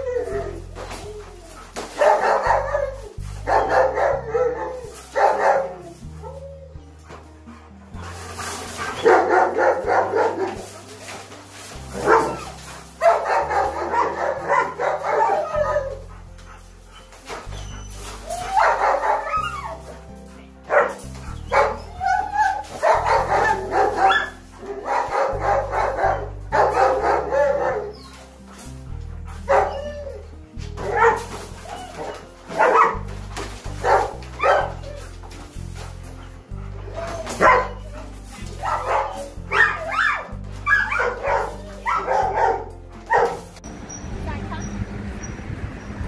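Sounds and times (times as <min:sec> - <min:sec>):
background music with bass line: 0:00.0 - 0:46.0
dog barking: 0:00.2 - 0:06.4, 0:08.0 - 0:30.2, 0:30.8 - 0:43.6.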